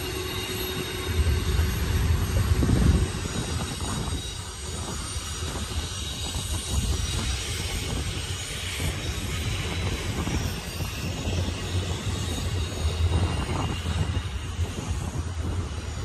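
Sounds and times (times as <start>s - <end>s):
faint high wheel squeal: 0.0s - 16.0s
freight cars rumbling and rattling: 0.0s - 16.0s.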